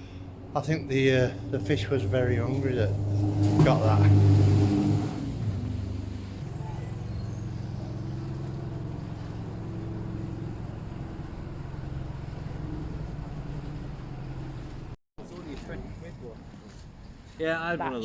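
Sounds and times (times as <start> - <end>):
engine running hum: 0.0 - 15.0.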